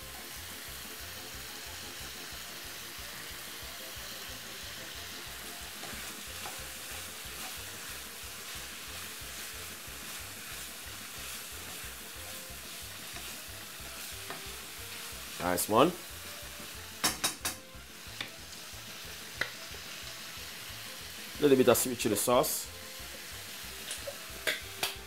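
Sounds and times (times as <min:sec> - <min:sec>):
meat and vegetables sizzling in pan: 0:00.0 - 0:25.0.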